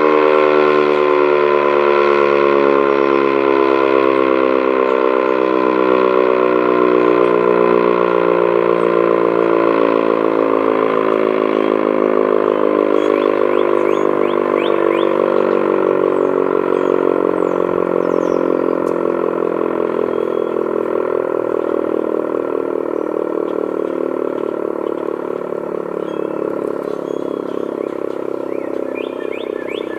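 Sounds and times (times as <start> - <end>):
siren wailing: 0.0 - 29.9.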